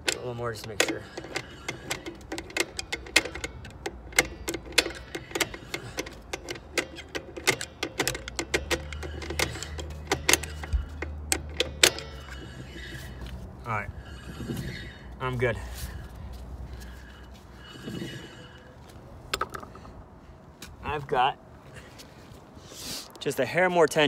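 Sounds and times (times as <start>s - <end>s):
brake adjuster clicking: 0.0s - 20.0s.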